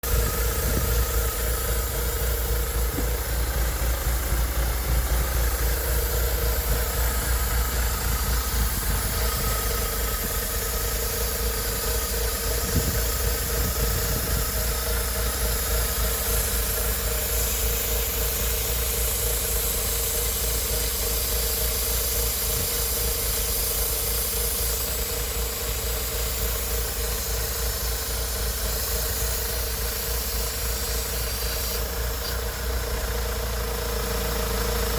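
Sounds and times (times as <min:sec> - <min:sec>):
car engine idling: 0:00.0 - 0:34.9
vacuum leak hiss: 0:00.1 - 0:34.9.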